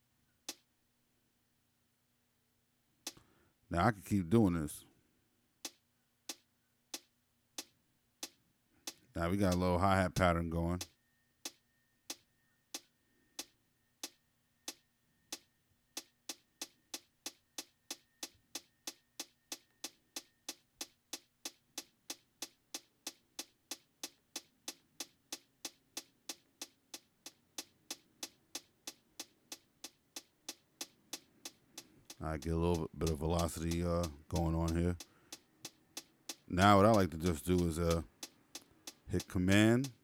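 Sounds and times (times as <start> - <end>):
drum machine hi-hat ticks: 3.1 - 3.3, 5.6 - 40.0.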